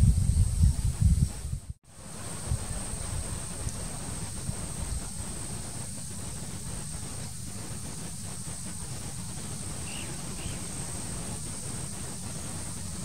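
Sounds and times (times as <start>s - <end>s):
constant high-pitched whine: 0.0s - 13.0s
steady hiss: 0.0s - 13.0s.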